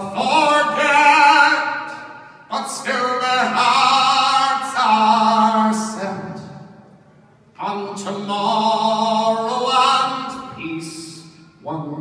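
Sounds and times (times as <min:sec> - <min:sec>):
man singing ballad: 0:00.0 - 0:06.6, 0:07.6 - 0:12.0.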